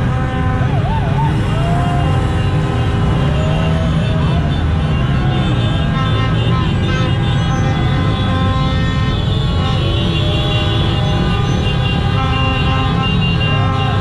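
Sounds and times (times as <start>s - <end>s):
car horns honking: 0.0s - 14.0s
road traffic rumble: 0.0s - 14.0s.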